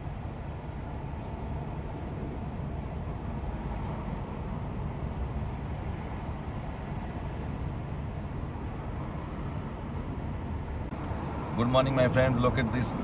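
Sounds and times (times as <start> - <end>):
roadside background rumble: 0.0 - 13.0.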